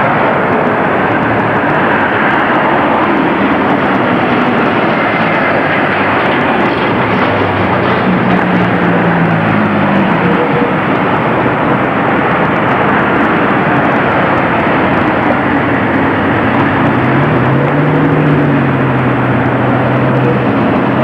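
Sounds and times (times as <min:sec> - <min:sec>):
low engine hum: 0:00.0 - 0:21.0
street traffic rushing: 0:00.0 - 0:21.0.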